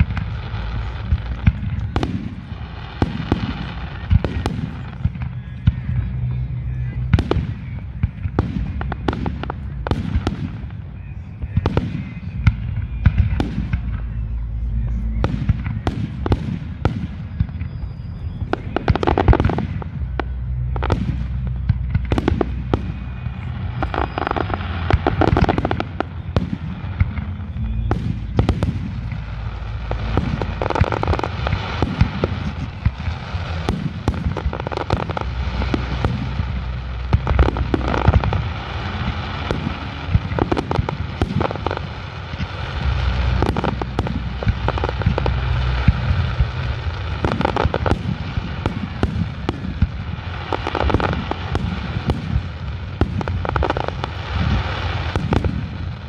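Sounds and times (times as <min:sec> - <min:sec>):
continuous low rumble: 0:00.0 - 0:56.0
firework crackling: 0:00.0 - 0:56.0.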